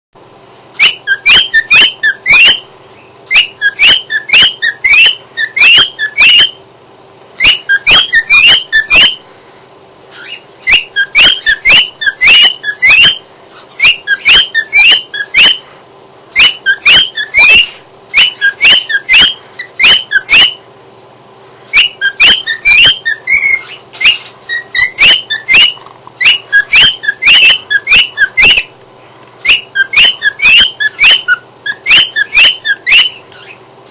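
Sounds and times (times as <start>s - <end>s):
cockatiel whistling: 0.8s - 2.7s, 3.3s - 6.6s, 7.4s - 9.2s, 10.1s - 15.6s, 16.4s - 20.6s, 21.7s - 28.7s, 29.4s - 33.6s.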